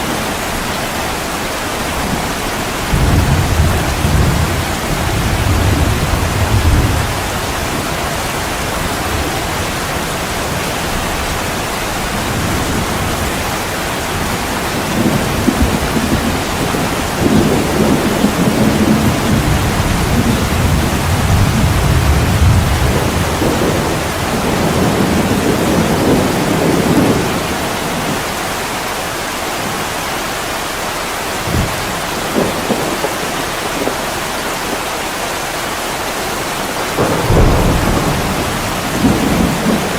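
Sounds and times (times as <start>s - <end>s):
heavy rain on a window: 0.0s - 39.9s
thunder rumbling: 1.9s - 28.7s, 31.3s - 35.2s, 36.5s - 39.9s.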